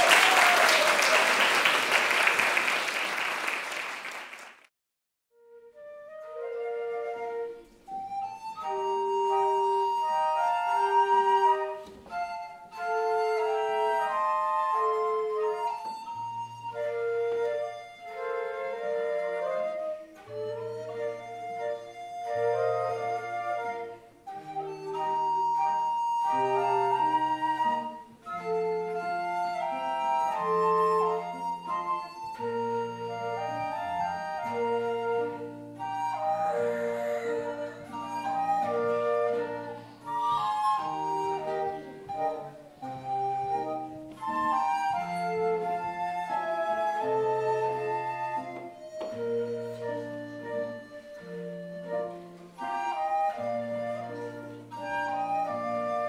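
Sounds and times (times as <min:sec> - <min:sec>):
flute playing slow melody: 0:05.4 - 0:56.0
piano accompaniment: 0:05.5 - 0:56.0.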